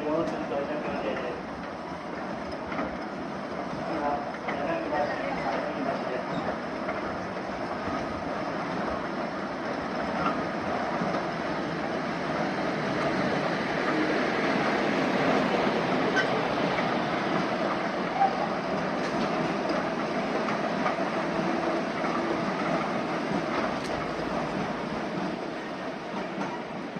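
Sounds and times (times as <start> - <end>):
sharp clicks from train wheels: 0.0 - 26.9
train carriages rumbling and rattling: 0.0 - 26.9.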